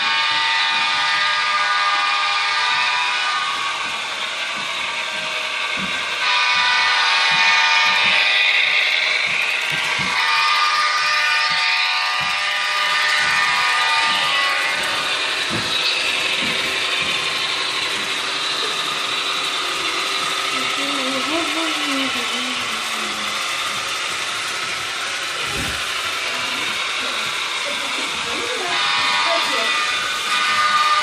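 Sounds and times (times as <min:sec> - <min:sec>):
model train motor whirring: 0:00.0 - 0:31.0
wheels on rails: 0:00.0 - 0:31.0.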